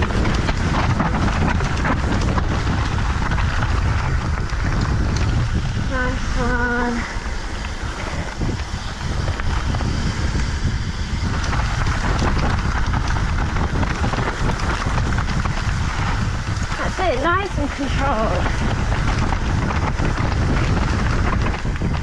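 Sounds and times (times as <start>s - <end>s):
bike rolling and rattling: 0.0s - 22.0s
wind buffeting microphone: 0.0s - 22.0s.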